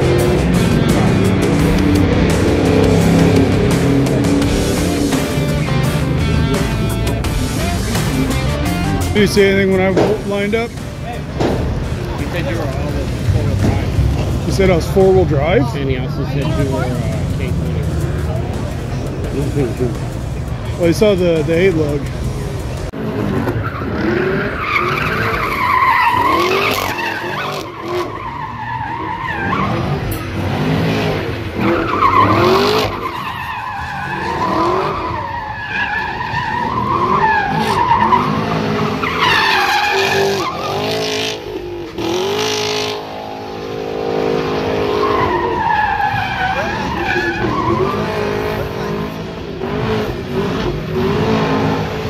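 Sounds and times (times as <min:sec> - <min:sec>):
car engine revving: 0:00.0 - 0:52.0
tires squealing on pavement: 0:00.0 - 0:52.0.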